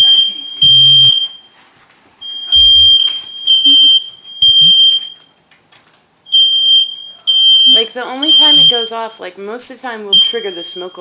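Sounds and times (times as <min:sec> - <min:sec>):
smoke alarms beeping: 0:00.0 - 0:01.6, 0:02.2 - 0:05.4, 0:06.2 - 0:09.4, 0:10.0 - 0:11.0.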